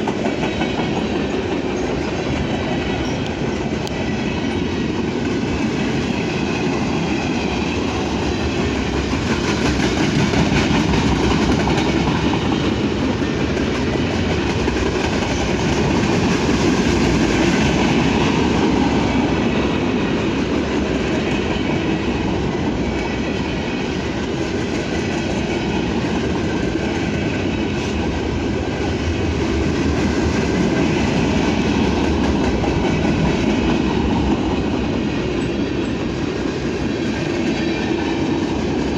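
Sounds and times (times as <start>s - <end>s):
train wheels clicking on rails: 0.0s - 38.9s.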